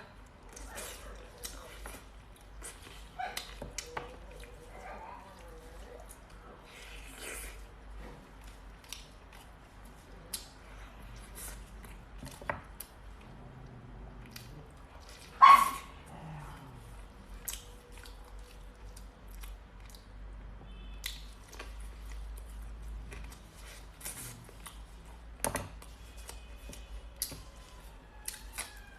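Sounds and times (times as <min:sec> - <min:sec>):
wet chewing clicks: 0:00.0 - 0:28.9.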